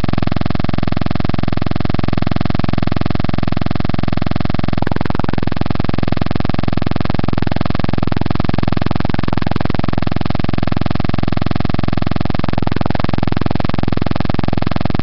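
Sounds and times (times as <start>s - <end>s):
electronic buzz of rapid clicks: 0.0s - 15.0s.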